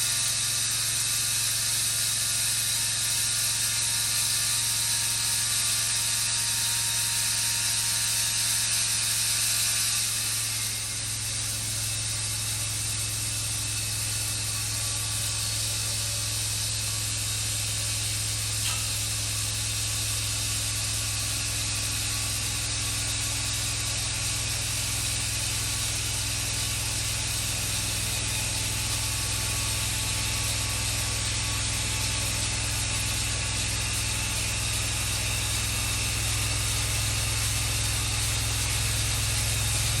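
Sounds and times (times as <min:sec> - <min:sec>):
band sawmill running: 0:00.0 - 0:40.0.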